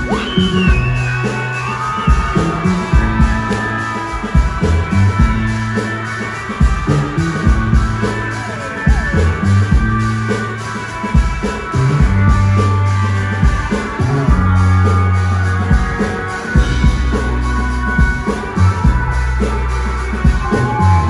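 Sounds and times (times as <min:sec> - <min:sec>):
electric bass low notes: 0:00.0 - 0:16.0, 0:16.6 - 0:21.0
drum beat: 0:00.0 - 0:21.0
electric guitar lead with slides: 0:00.0 - 0:21.0.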